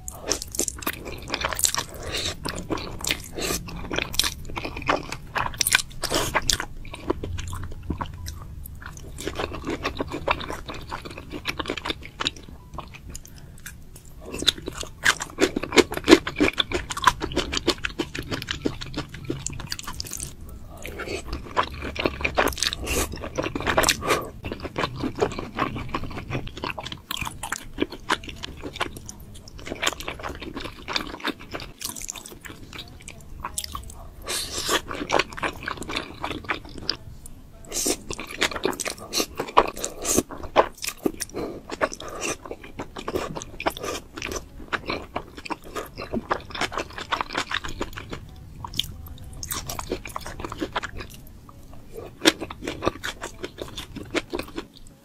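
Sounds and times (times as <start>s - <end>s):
person chewing crunchy food: 0.0s - 37.0s, 37.6s - 55.0s.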